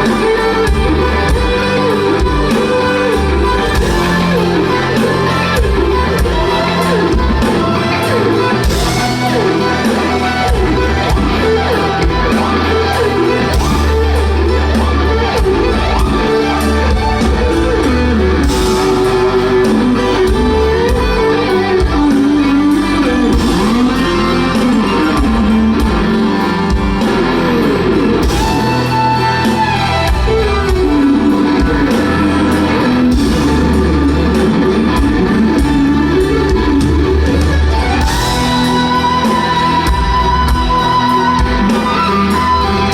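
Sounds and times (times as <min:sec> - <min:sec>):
lead electric guitar bending notes: 0:00.0 - 0:42.9
live rock band: 0:00.0 - 0:42.9.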